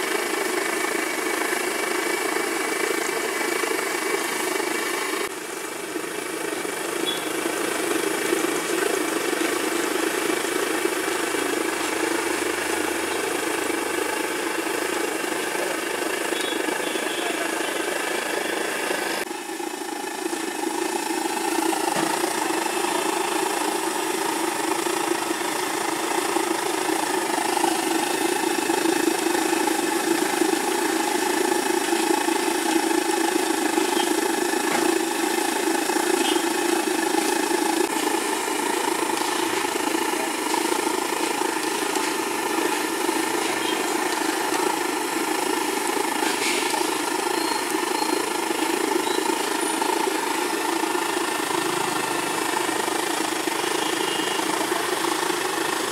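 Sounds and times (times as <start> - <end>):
stove burner roar: 0.0 - 55.9
oil sizzling in a wok: 0.1 - 16.8, 19.3 - 55.9.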